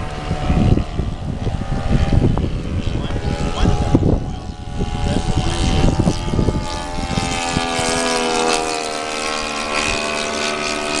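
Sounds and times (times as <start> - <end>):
model airplane motor whine: 0.0 - 11.0
wind buffeting microphone: 0.0 - 11.0.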